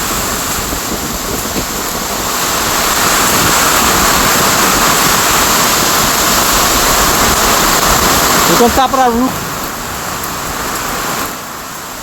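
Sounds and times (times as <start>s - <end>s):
hurricane wind buffeting microphone: 0.0s - 12.0s.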